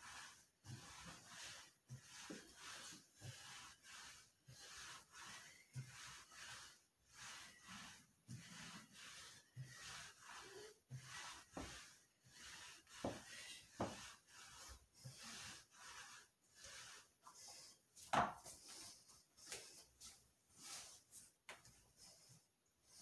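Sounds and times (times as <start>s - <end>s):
ab roller rolling on foam mat: 0.0s - 23.0s.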